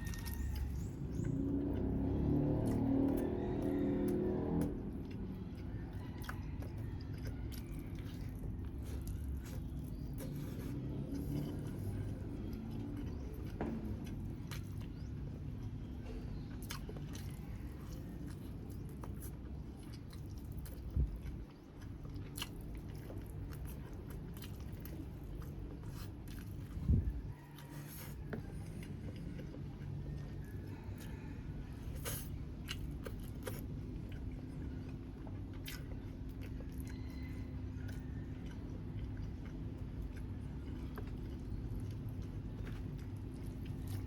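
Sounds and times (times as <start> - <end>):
chewing and biting: 0.0 - 44.0
low background hum: 0.0 - 44.0.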